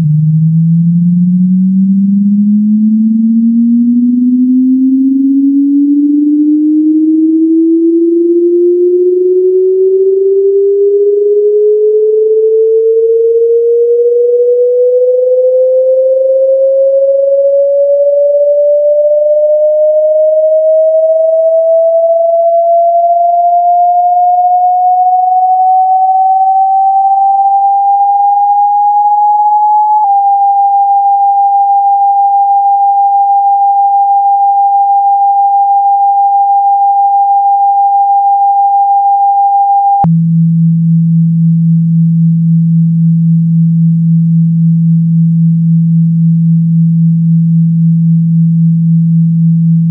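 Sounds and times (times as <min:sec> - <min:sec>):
rising sine tone sweep: 0:00.0 - 0:49.9.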